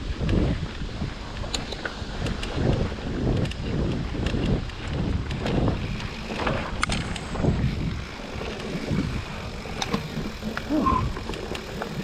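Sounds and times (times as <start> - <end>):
bike chain and frame clicks: 0.0 - 12.0
bike tyres rumbling on trail: 0.0 - 12.0.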